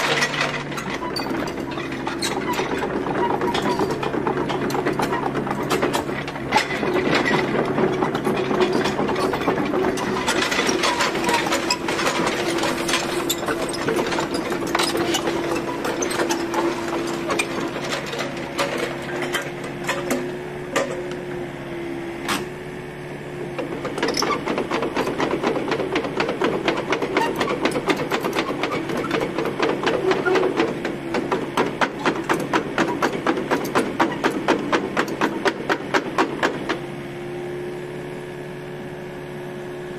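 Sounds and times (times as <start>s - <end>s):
rapid mechanical clatter: 0.0s - 20.2s, 23.7s - 36.8s
diesel engine under load: 0.0s - 39.9s.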